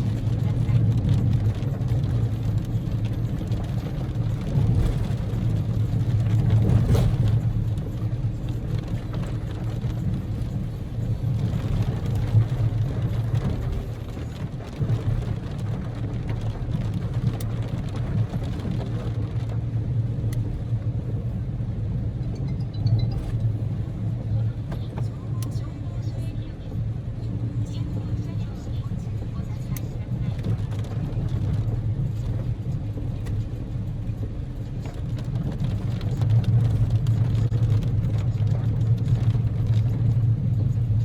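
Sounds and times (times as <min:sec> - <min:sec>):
car engine and tyre hum: 0:00.0 - 0:41.0.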